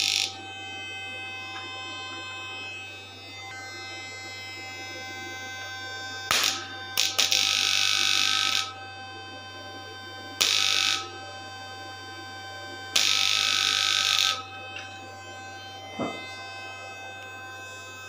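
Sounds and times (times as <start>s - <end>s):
electrical hum and whine: 0.0s - 18.0s
inverter harsh buzz: 0.0s - 18.0s.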